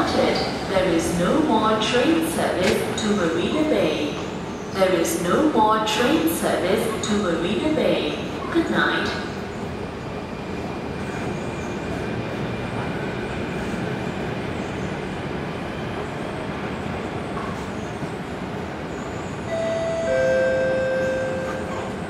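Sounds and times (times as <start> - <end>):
muffled metro train rumbling: 0.0 - 22.0.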